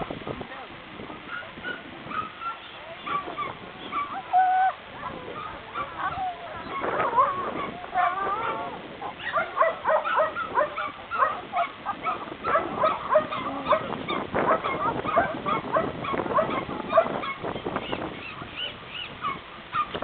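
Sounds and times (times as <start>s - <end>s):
dogs barking and yelping: 1.3s - 20.0s.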